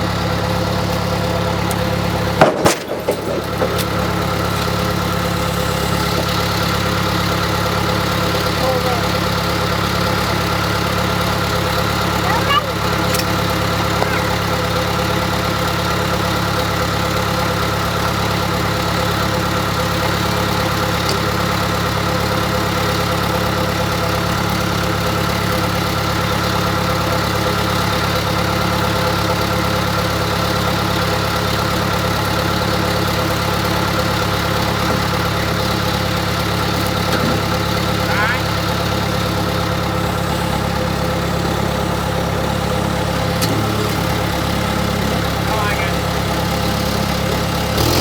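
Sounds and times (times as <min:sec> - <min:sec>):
engine droning steadily: 0:00.0 - 0:48.0.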